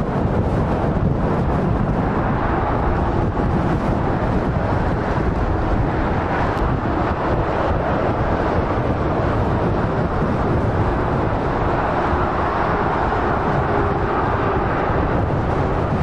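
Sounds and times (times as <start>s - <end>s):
motorway traffic roar: 0.0s - 16.0s.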